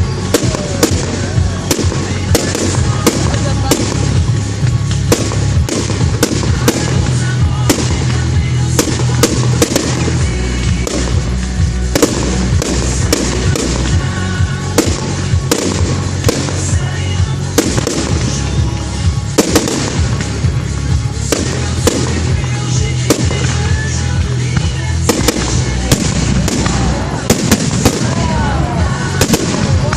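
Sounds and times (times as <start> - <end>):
fireworks bangs and crackles: 0.0 - 29.9
music with low bass: 0.0 - 29.9.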